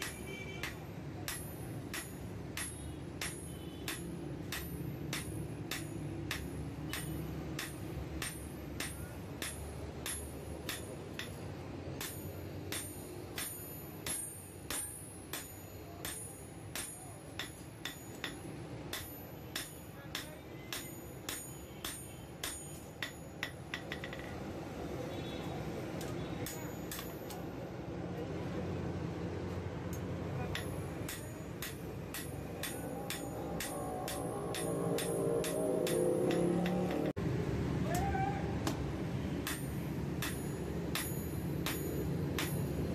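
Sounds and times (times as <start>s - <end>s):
hammer striking metal on anvil: 0.0s - 24.5s, 26.0s - 27.6s, 29.9s - 37.2s, 38.6s - 42.9s.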